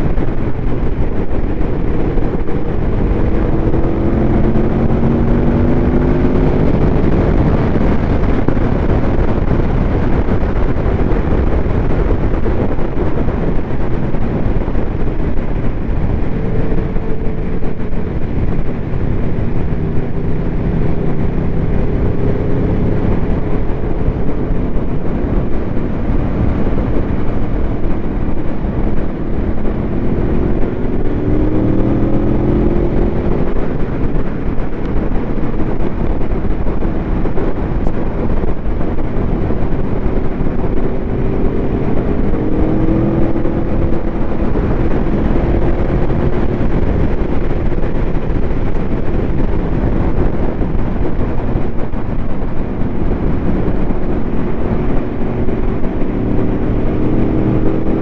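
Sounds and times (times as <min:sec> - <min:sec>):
heavy wind rush: 0:00.0 - 0:58.0
motorcycle engine accelerating: 0:00.0 - 0:58.0.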